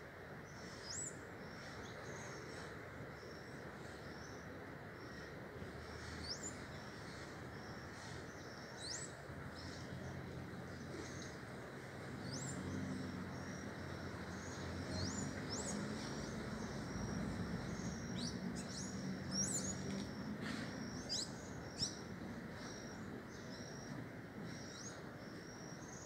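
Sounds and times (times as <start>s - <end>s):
steady low hum: 0.0s - 26.0s
small birds chirping: 0.4s - 26.0s.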